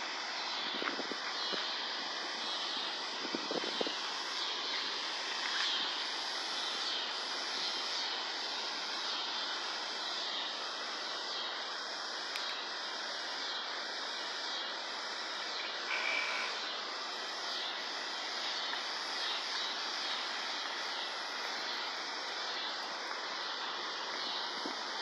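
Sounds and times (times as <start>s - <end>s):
faint pulsing high hiss: 0.0s - 25.0s
rushing outdoor background noise: 0.0s - 25.0s.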